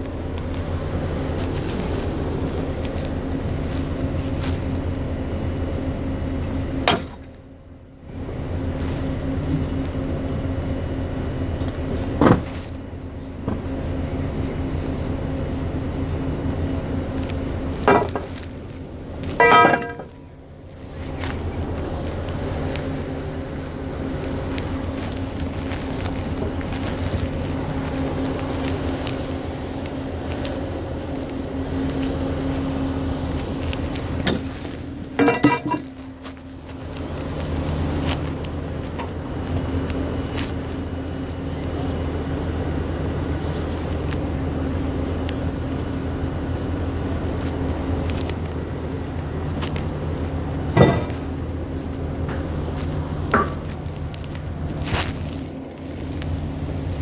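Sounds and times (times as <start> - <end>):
large engine running: 0.0 - 57.0.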